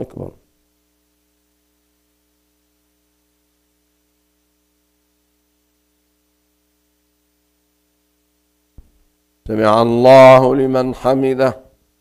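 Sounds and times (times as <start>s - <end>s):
faint electrical hum and hiss: 0.0s - 12.0s.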